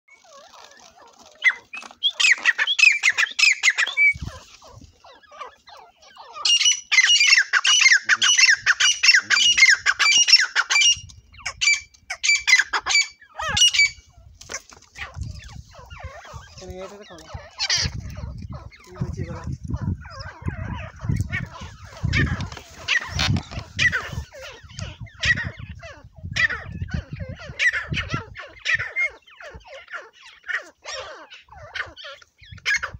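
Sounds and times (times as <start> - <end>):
francolin calling: 0.1 - 14.3, 15.0 - 32.9.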